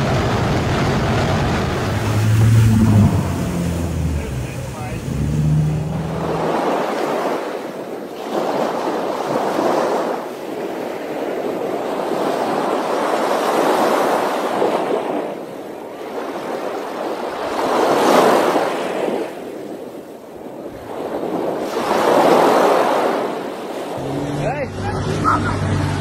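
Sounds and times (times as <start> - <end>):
water rushing and splashing: 0.0 - 26.0.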